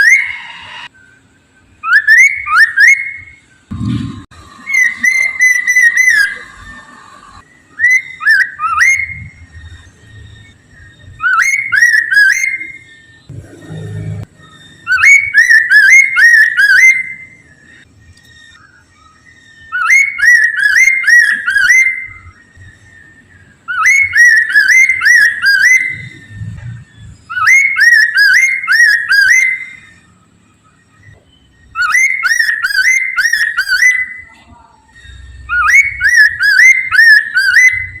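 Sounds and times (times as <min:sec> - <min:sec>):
bird singing whistled phrases: 0:00.0 - 0:03.5, 0:04.6 - 0:13.3, 0:14.3 - 0:38.0.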